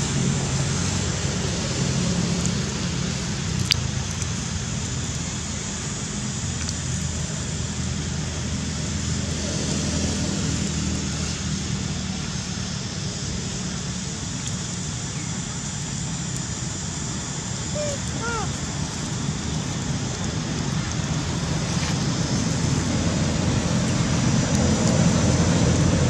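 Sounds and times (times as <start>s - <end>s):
even hiss: 0.0s - 26.0s.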